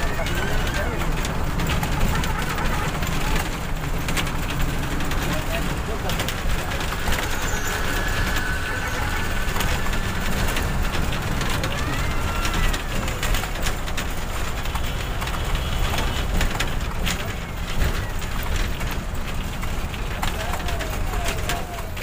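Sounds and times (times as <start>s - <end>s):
road and traffic noise: 0.0s - 22.0s.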